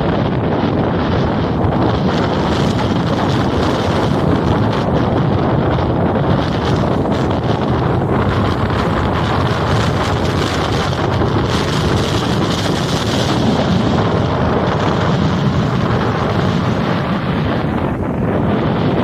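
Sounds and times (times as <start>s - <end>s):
sea surf breaking: 0.0s - 19.0s
wind buffeting microphone: 0.0s - 19.0s.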